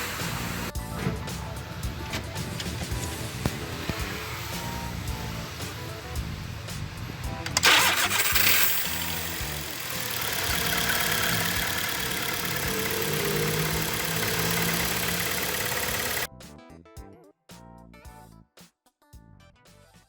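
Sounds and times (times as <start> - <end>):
car engine starting: 0.0 - 16.3.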